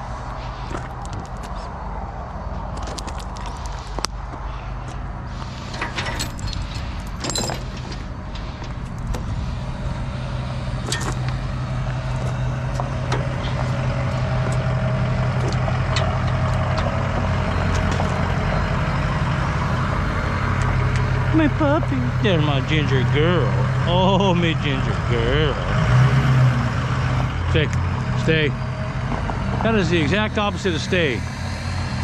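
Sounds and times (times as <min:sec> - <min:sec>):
pickup truck engine running: 0:00.0 - 0:32.0.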